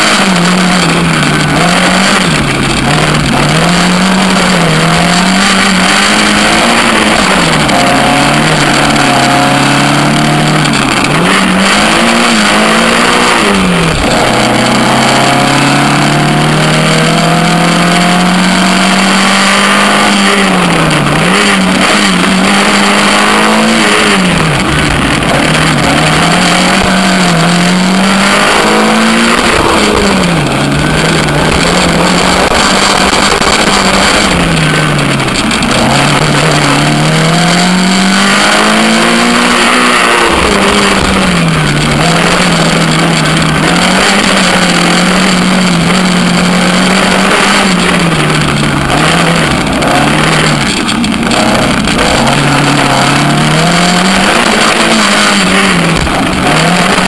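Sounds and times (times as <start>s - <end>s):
rally car engine revving: 0.0s - 57.0s
wind and road noise: 0.0s - 57.0s.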